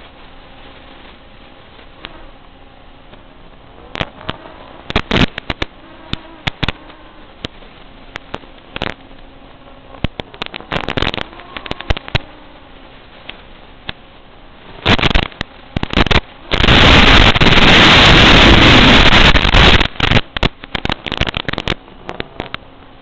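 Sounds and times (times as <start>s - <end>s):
faint buzzing tone: 0.0s - 23.0s
sharp crackling bursts: 0.0s - 23.0s
static hiss: 0.0s - 23.0s.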